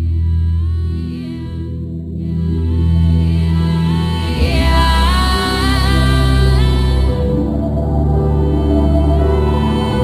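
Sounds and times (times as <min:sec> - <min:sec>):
slow ambient music: 0:00.0 - 0:10.0
sung or chanted vocal line: 0:00.8 - 0:10.0.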